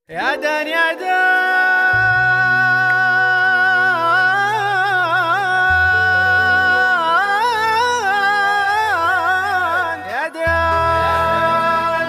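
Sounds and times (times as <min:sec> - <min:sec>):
man singing melisma: 0:00.1 - 0:12.0.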